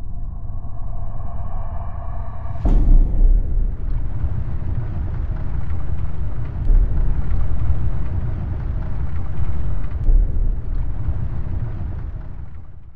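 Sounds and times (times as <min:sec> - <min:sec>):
heavy low hits: 0:00.0 - 0:12.6
deep cinematic rumble: 0:00.0 - 0:12.9.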